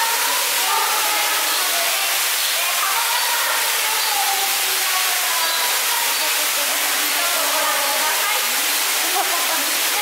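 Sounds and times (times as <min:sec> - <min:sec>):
faint voices: 0:00.0 - 0:10.0
waterfall splashing into pond: 0:00.0 - 0:10.0.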